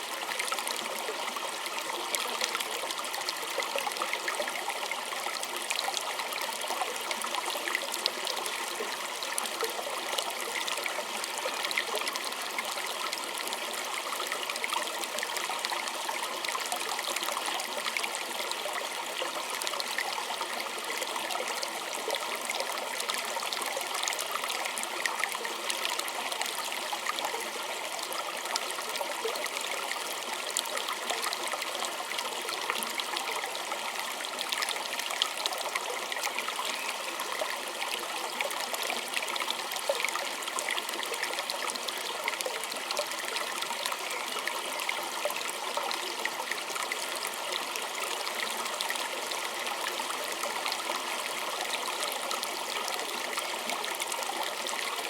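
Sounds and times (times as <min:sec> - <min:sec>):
stream trickling and gurgling: 0:00.0 - 0:55.0.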